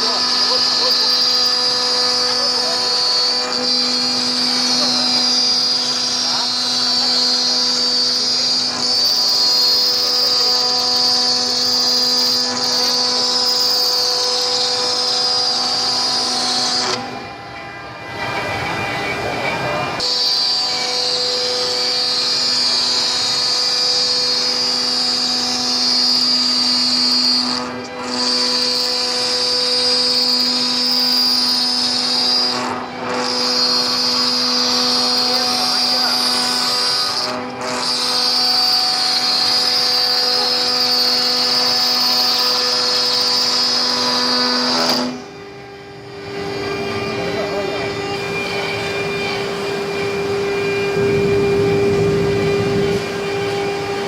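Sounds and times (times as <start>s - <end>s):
cutting machine high whine: 0.0s - 54.0s
rough machine noise: 0.0s - 54.0s.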